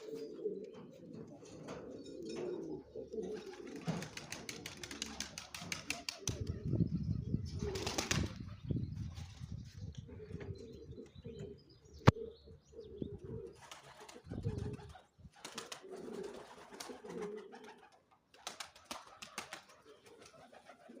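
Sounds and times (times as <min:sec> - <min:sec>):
pigeons cooing: 0:00.0 - 0:08.8, 0:09.5 - 0:21.0.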